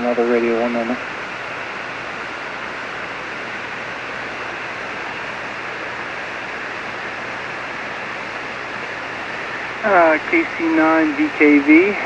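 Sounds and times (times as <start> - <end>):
faint low hum: 0.0 - 12.0
radio static hiss: 0.0 - 12.0.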